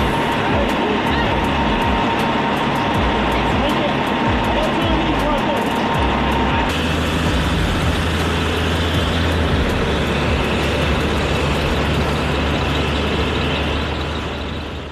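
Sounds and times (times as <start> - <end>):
truck diesel engine running: 0.0 - 14.9.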